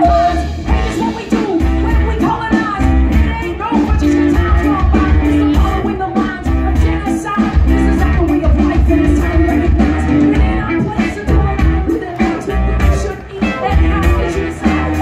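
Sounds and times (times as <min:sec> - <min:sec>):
brass band playing: 0:00.0 - 0:15.0
woman singing: 0:00.0 - 0:15.0.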